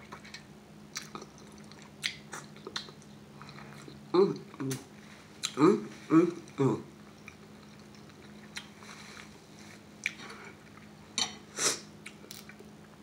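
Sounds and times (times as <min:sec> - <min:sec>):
quiet chewing: 0:00.0 - 0:11.4
faint low hum: 0:00.0 - 0:13.0.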